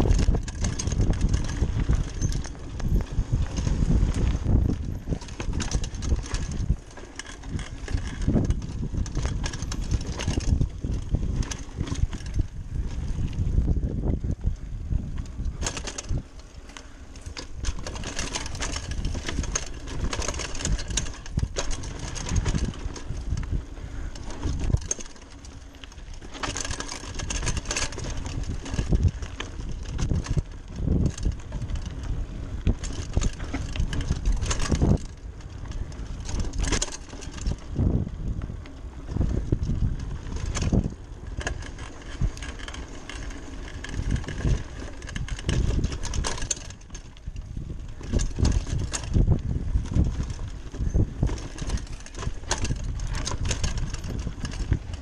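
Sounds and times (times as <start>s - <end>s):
bike rattling and knocking: 0.0s - 55.0s
bike tyres rumbling on dirt: 0.0s - 55.0s.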